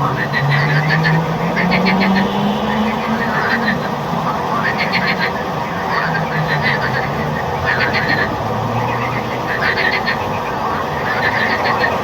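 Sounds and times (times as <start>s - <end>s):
frogs croaking chorus: 0.0s - 12.0s
rapid pulsed frog calls: 0.0s - 12.0s.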